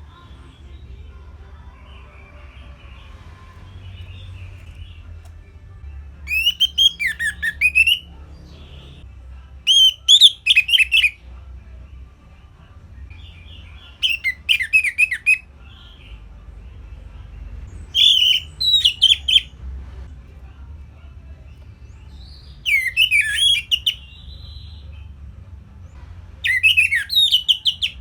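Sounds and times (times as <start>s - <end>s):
thrush singing: 0.0s - 20.1s, 21.0s - 28.0s.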